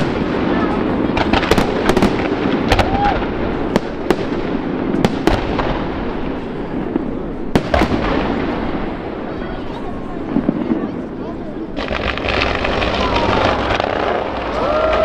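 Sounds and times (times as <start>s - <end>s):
continuous fireworks din: 0.0s - 15.0s
fireworks bangs: 0.0s - 15.0s.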